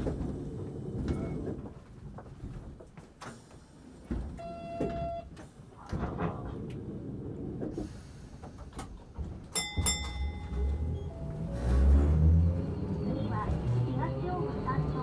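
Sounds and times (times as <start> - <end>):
tram motors rumbling: 0.0 - 15.0.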